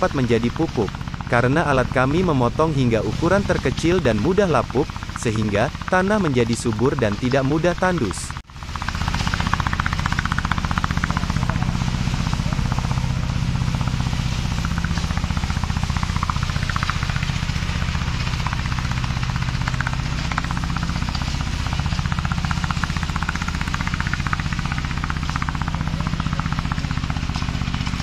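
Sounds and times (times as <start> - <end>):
brush mower engine running: 0.0 - 28.0.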